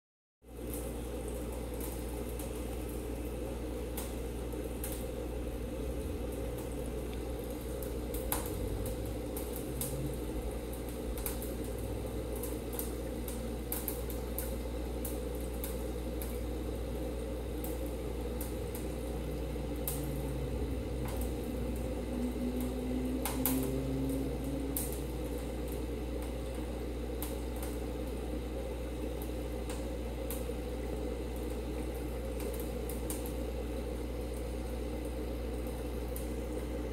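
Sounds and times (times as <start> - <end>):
aquarium equipment humming: 0.4 - 36.9
water bubbling from air line: 0.7 - 36.9.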